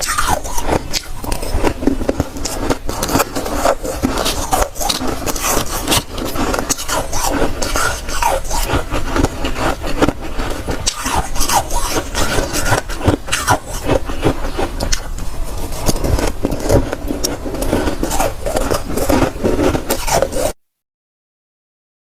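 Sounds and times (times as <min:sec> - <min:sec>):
chewing crunchy frost: 0:00.0 - 0:20.6.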